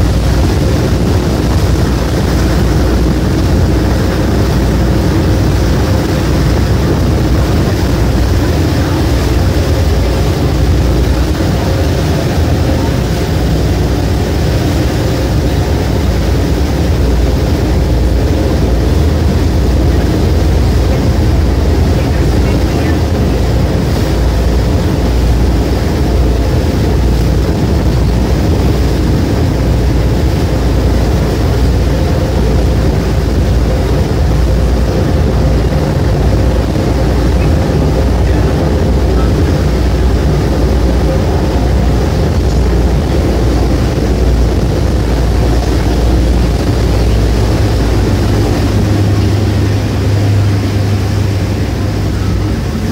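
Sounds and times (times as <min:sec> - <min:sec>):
boat engine rumbling: 0:00.0 - 0:52.9.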